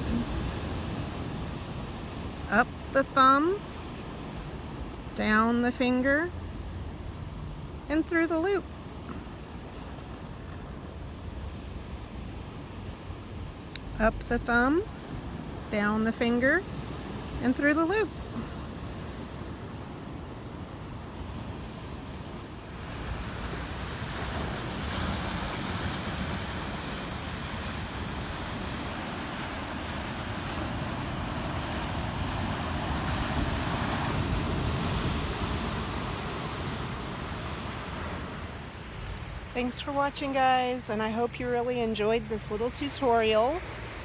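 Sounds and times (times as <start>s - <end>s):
ocean surf washing in: 0.0s - 44.0s.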